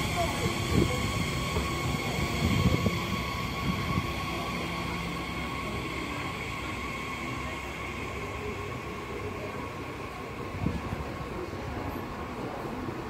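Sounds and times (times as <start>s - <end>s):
train high whine: 0.0s - 13.0s
train wheel rumble: 0.0s - 13.0s.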